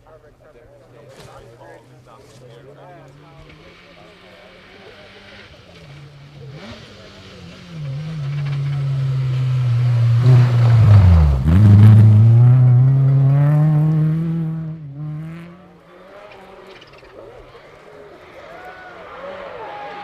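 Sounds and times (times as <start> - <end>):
rally car passing by: 0.6 - 20.0.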